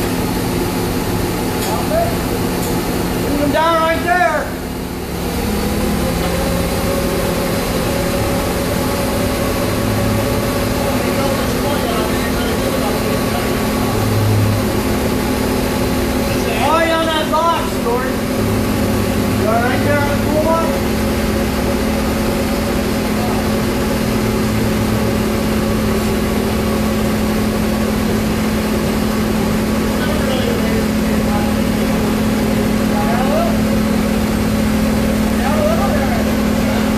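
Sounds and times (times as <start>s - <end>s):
diesel crane engine droning: 0.0s - 36.9s
steady hum: 0.0s - 36.9s.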